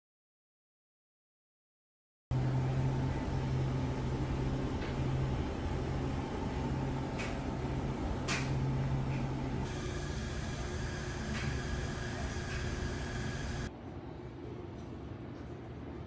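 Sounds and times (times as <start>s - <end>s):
low machine hum: 2.3s - 16.0s.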